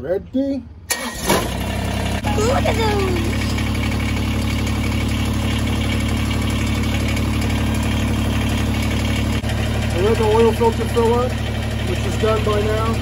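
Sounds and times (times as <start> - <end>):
diesel tractor engine idling: 0.9 - 13.0.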